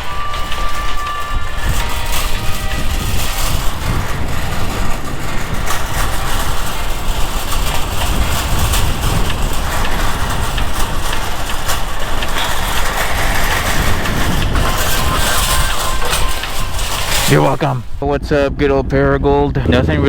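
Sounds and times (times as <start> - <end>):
motorcycle engine rumble: 0.0 - 18.0, 19.6 - 20.0.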